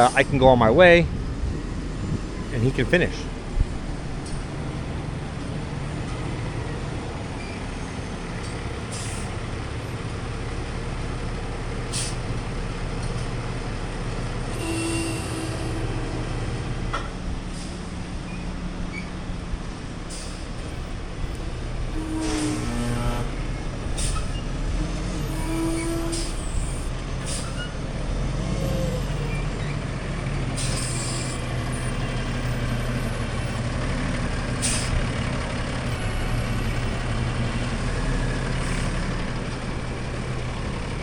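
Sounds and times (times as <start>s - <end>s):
truck engine running: 0.5s - 41.0s.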